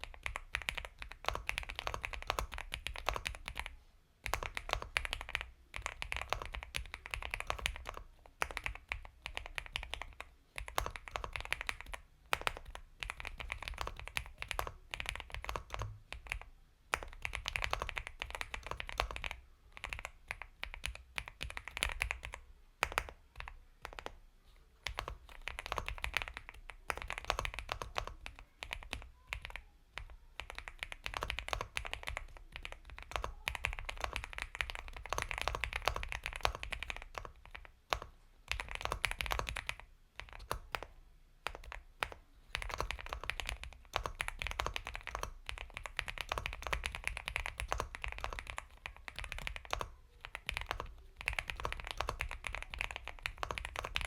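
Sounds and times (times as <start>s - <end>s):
mechanical keyboard typing: 0.0s - 24.2s, 24.8s - 54.0s.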